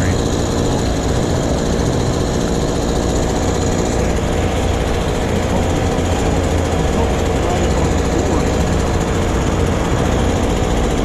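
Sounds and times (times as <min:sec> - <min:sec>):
diesel truck engines running: 0:00.0 - 0:11.0.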